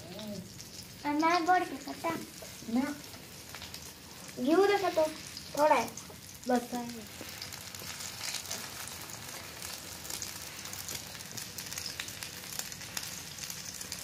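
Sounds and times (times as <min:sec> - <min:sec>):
patties sizzling in hot fat: 0:00.0 - 0:14.0.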